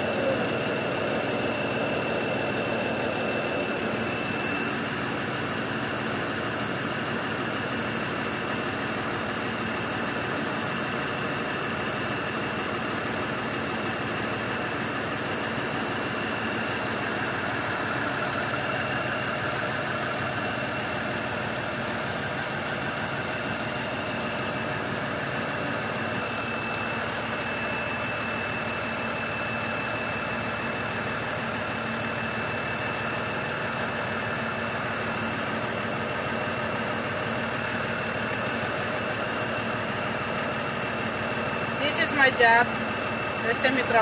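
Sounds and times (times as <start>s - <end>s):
truck engine droning: 0.0s - 44.0s.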